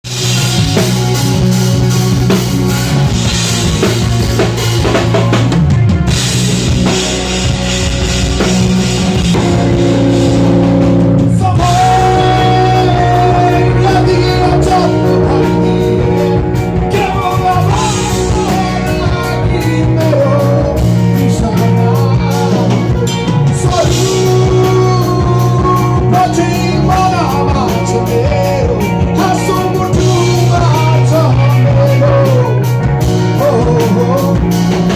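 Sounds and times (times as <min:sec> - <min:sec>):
rock band playing live: 0:00.0 - 0:34.9
wavering melody line: 0:01.2 - 0:31.9.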